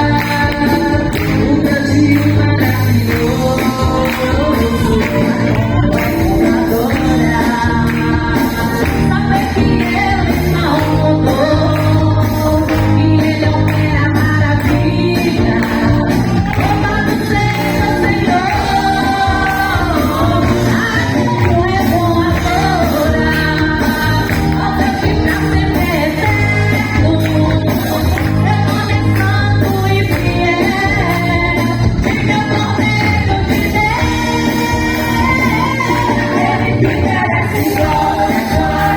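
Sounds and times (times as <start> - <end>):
band with bass and percussion: 0.0 - 38.9
women's choir singing gospel: 0.0 - 38.9.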